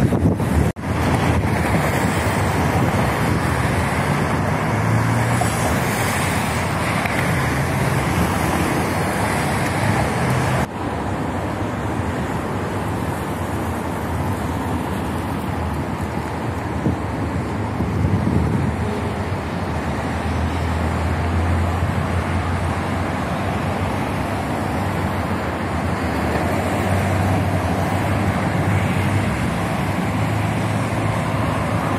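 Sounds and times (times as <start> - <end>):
cars passing close by: 0.0 - 31.9
wind rushing on microphone: 0.0 - 31.9.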